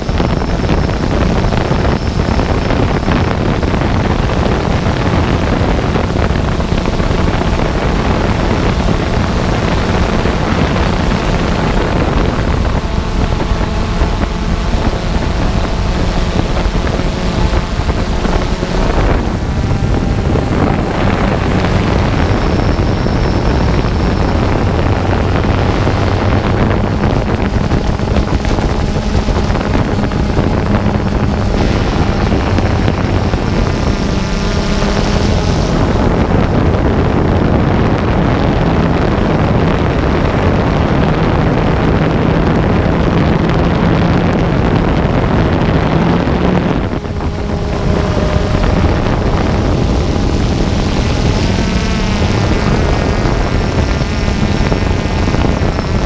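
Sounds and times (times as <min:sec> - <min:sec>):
drone motors humming: 0:00.0 - 0:56.0
wind buffeting microphone: 0:00.0 - 0:56.0.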